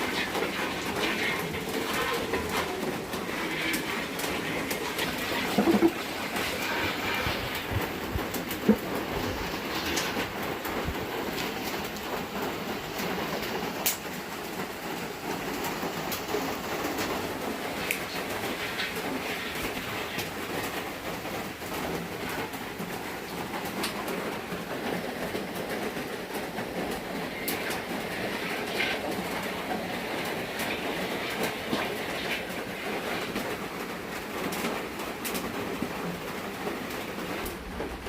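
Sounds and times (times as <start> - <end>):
rain on a metal roof: 0.0 - 38.0.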